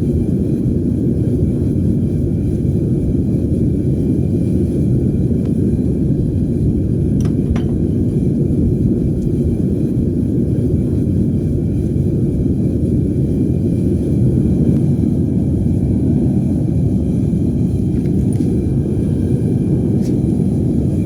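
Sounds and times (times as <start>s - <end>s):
burner flames roaring: 0.0s - 21.0s.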